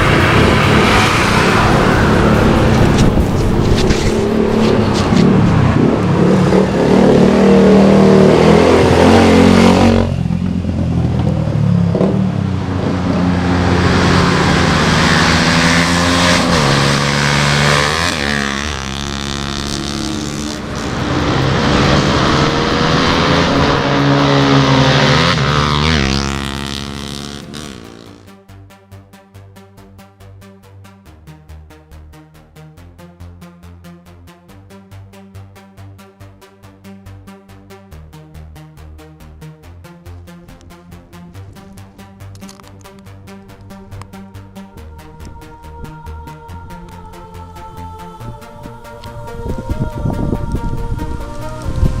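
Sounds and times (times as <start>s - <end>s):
motorcycle accelerating: 0.0s - 28.4s, 36.2s - 52.0s.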